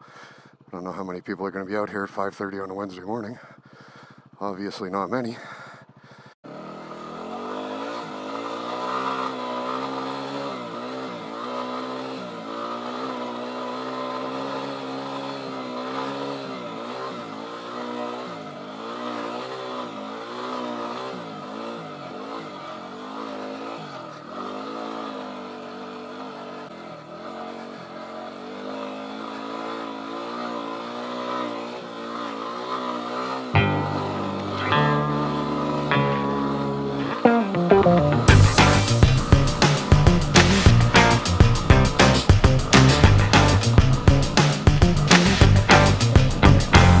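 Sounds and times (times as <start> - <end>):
motorcycle engine revving: 3.5 - 4.4, 5.8 - 47.0.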